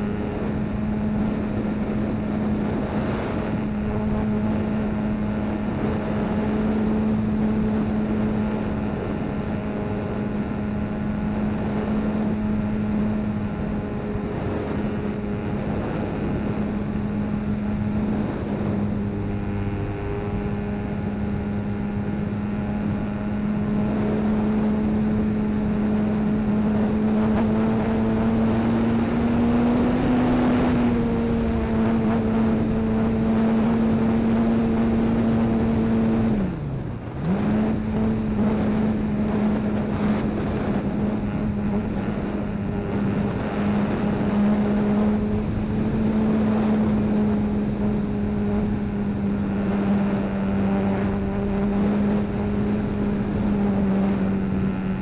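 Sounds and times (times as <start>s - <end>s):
model plane motor droning: 0.0s - 55.0s.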